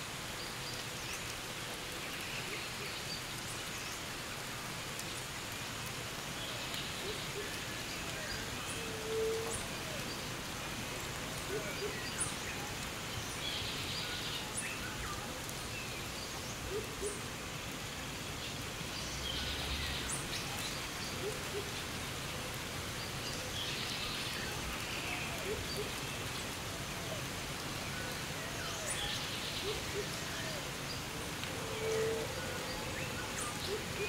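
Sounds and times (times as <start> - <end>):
light rain on foliage: 0.0 - 34.0.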